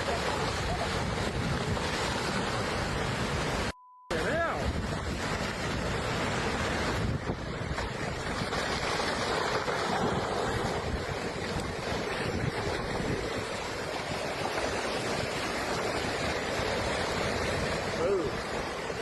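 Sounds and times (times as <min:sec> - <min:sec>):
waves washing: 0:00.0 - 0:19.0
wind buffeting microphone: 0:00.0 - 0:19.0.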